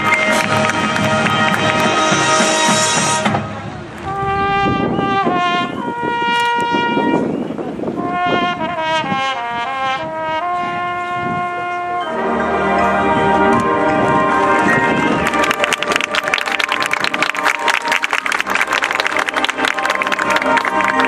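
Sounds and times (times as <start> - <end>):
low brass and sousaphones: 0.0 - 21.0
marching band brass melody: 0.0 - 21.0.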